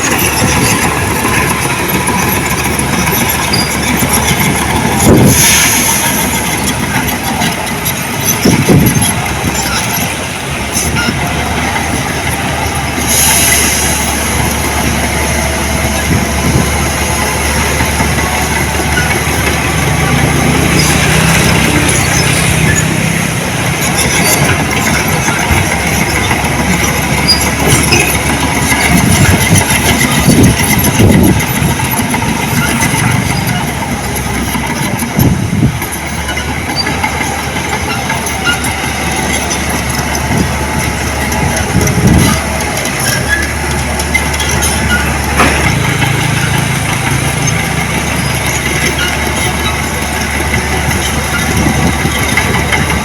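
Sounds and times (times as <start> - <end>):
diesel machinery running: 0.0 - 53.0
metallic clanking and rattling: 0.0 - 53.0.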